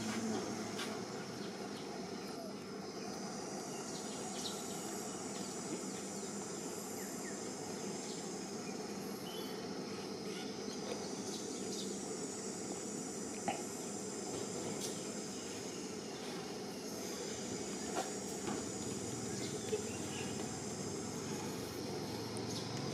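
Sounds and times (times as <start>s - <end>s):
constant hiss: 0.0s - 22.9s
high insect drone: 0.0s - 22.9s.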